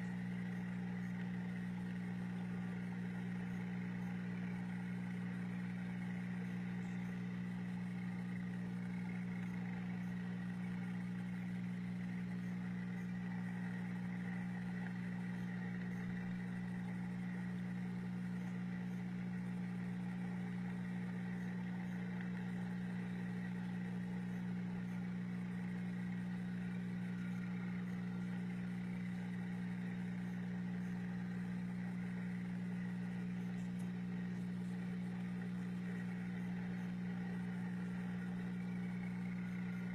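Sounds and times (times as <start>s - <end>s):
fish tank pump hum: 0.0s - 39.9s.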